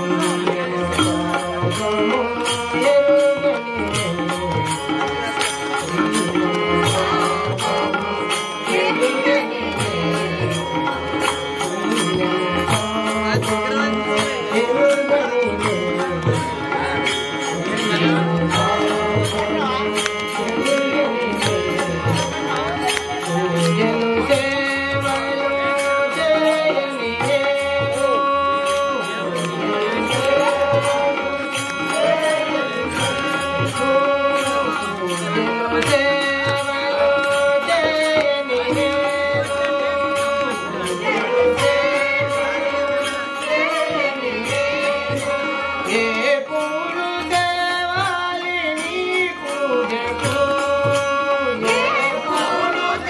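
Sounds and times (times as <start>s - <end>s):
devotional singing: 0.0s - 53.0s
percussion beat: 0.0s - 53.0s.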